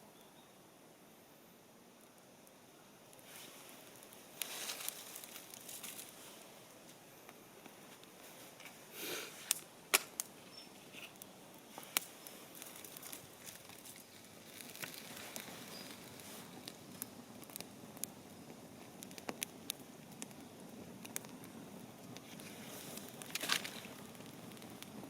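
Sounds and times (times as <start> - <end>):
faint hiss of burning logs: 0.0 - 25.0
campfire crackling and popping: 1.9 - 25.0.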